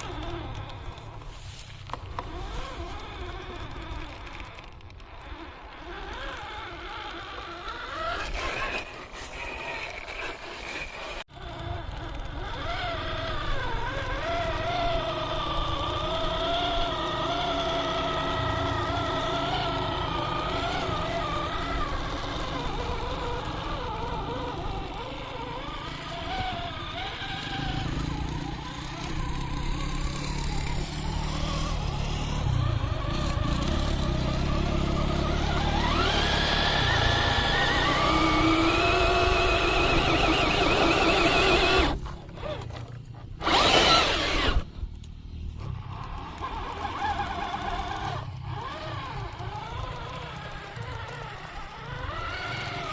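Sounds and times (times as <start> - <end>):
toy car electric motor whining: 0.0 - 52.9.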